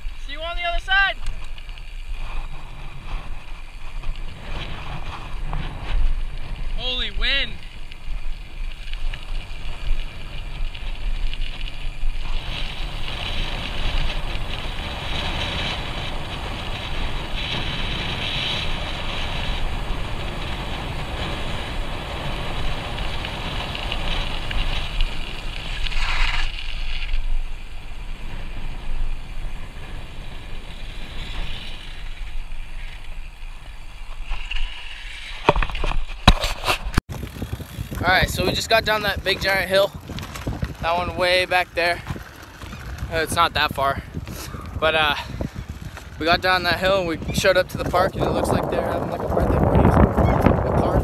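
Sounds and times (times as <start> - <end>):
wind buffeting microphone: 0.0 - 34.8, 35.4 - 51.0
bike tyres rolling on concrete: 0.0 - 51.0.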